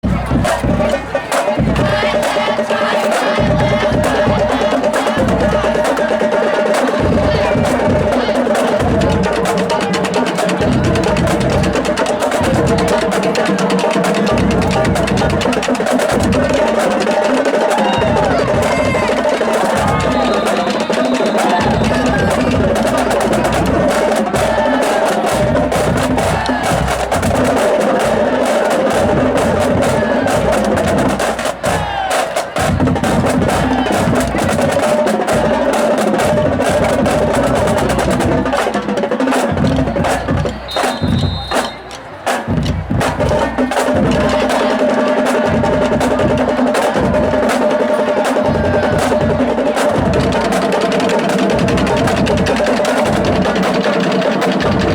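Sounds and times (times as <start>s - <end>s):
band playing loudly: 0.0s - 54.9s
drums and percussion: 0.0s - 54.9s.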